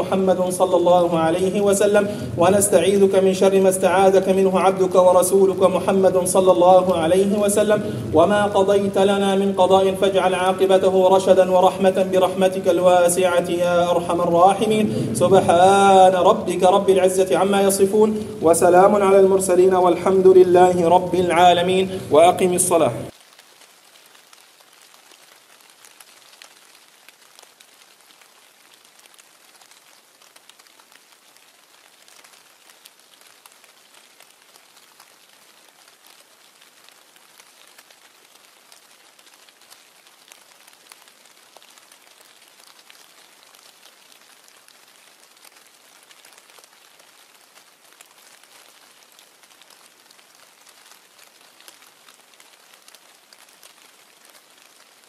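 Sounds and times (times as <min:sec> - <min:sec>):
light rain patter: 0:00.0 - 0:55.0.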